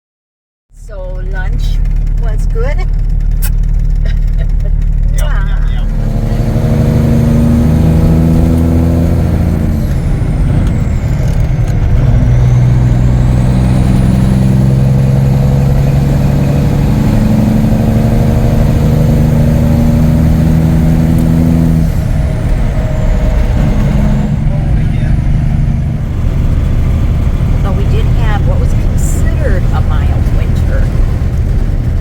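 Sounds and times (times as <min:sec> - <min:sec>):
truck diesel engine pulling: 0:00.8 - 0:32.0.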